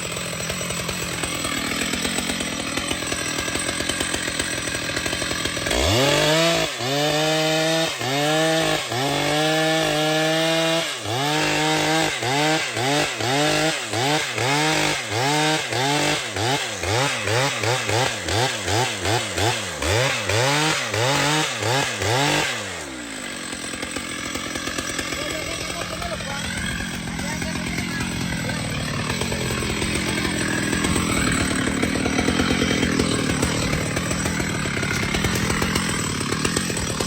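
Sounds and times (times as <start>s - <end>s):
chainsaw running at high revs: 0.0s - 37.0s.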